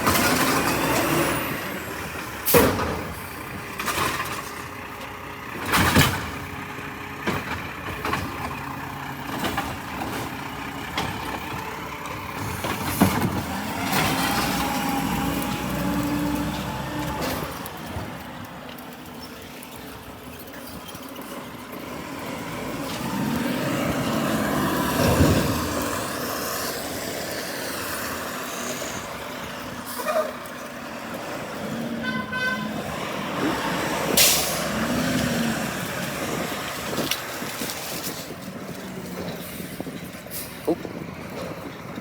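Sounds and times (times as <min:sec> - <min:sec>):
heavy trucks passing: 0:00.0 - 0:42.0.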